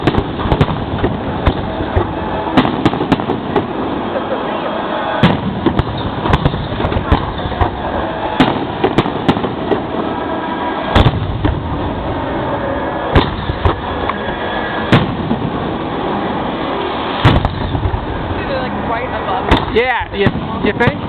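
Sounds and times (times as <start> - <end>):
fireworks booming: 0.0 - 21.0
noisy background: 0.0 - 21.0.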